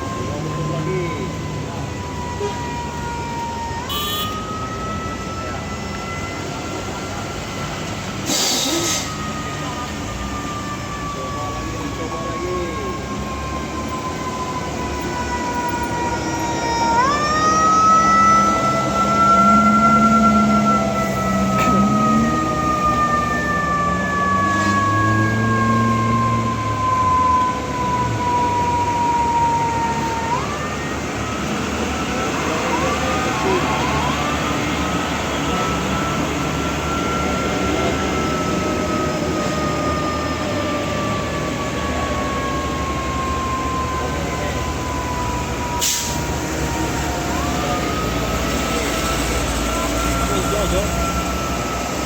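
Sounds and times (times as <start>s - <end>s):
truck engine labouring with whine: 0.0s - 52.0s.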